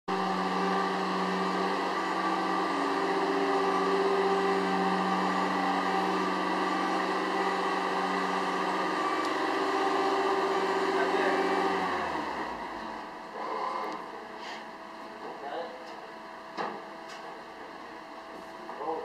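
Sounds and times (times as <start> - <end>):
lift motor and hydraulic pump humming: 0.1 - 19.0.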